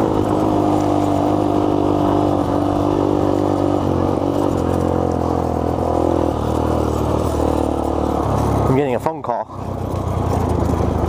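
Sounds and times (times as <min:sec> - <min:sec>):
dirt bike engine cruising: 0:00.0 - 0:11.0.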